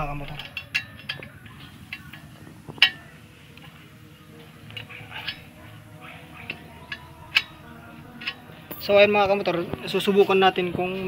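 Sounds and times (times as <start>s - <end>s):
hand tools clicking and clinking: 0.0s - 3.8s, 4.6s - 11.0s.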